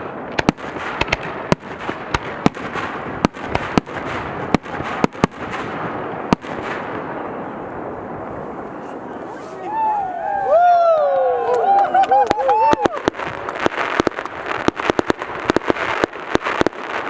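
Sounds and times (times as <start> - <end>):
fireworks banging: 0.0 - 10.3, 11.7 - 17.0
continuous noisy hiss: 0.0 - 17.0.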